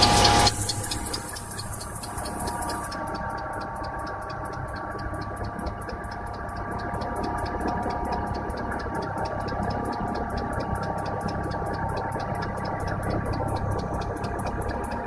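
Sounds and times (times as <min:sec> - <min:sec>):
car engine idling with whine: 0:00.0 - 0:15.0
fast even engine ticking: 0:00.0 - 0:15.0.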